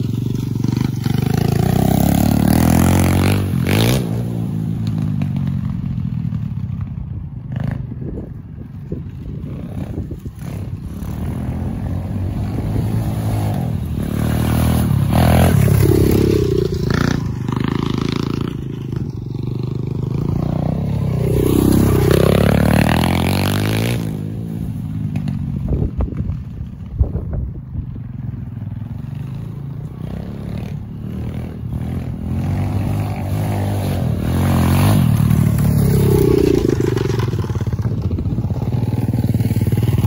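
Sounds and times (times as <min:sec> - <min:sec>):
dirt bike engine revving: 0:00.0 - 0:05.5, 0:09.4 - 0:25.9, 0:28.7 - 0:40.0.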